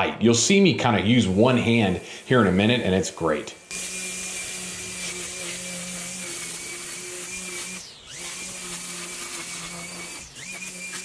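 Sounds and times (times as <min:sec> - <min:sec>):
string trimmer whining: 0:01.3 - 0:11.0.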